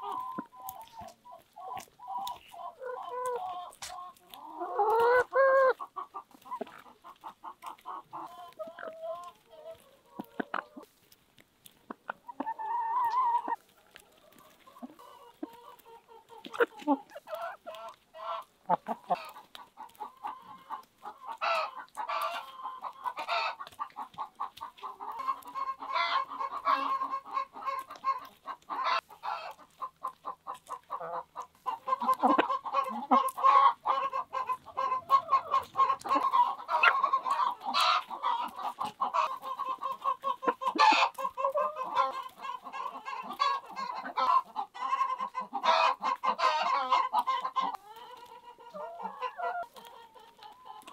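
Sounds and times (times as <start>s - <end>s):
beaks tapping corn cob: 0.0s - 50.9s
hens clucking: 0.0s - 50.9s.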